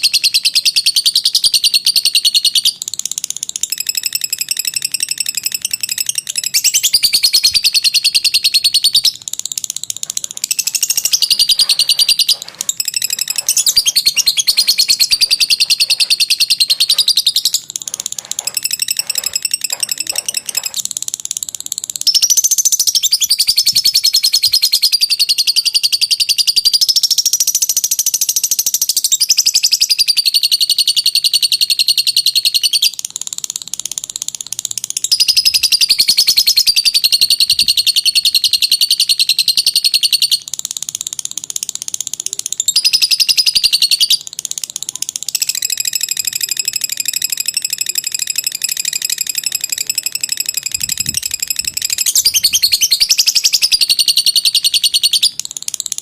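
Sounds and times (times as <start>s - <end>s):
lovebird rapid trill: 0.0s - 56.0s.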